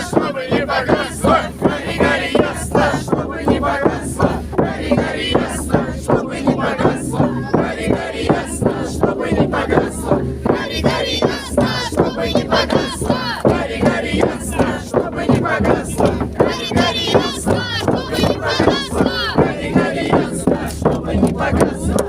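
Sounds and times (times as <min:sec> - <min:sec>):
crowd chanting and shouting: 0:00.0 - 0:22.0.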